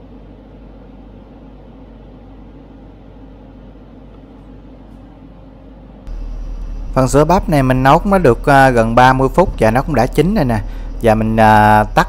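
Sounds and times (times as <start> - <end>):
induction cooktop humming: 0.0 - 12.0.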